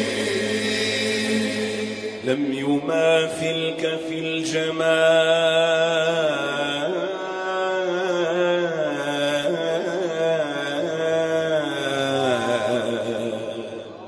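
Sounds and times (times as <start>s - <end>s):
man singing melisma: 0.0s - 14.0s.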